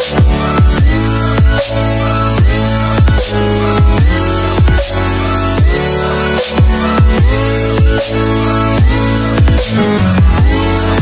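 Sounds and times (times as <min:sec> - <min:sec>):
dubstep electronic music: 0:00.0 - 0:11.0.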